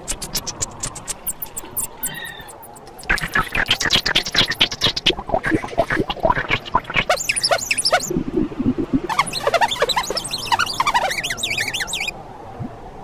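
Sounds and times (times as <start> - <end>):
synthesizer chirps and clicks: 0.1 - 12.1.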